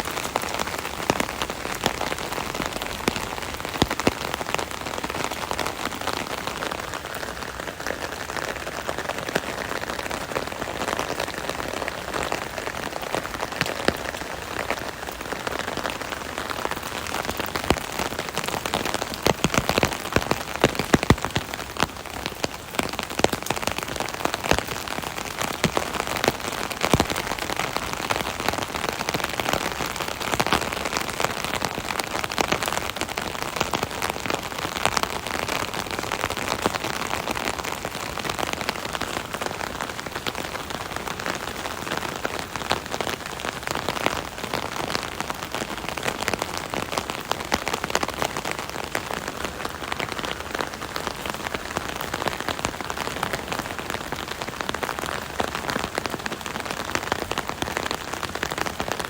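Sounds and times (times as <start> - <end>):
rain on an umbrella: 0.0 - 59.0.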